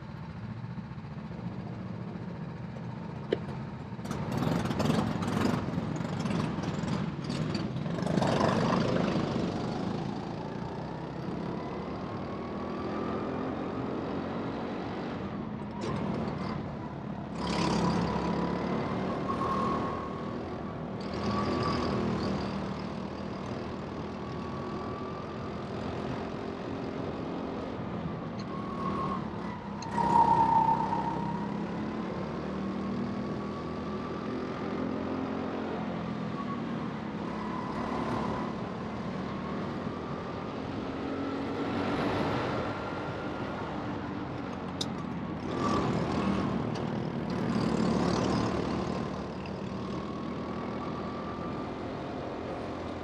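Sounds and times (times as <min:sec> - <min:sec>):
race kart motor whining: 0:01.1 - 0:35.5, 0:36.3 - 0:53.0.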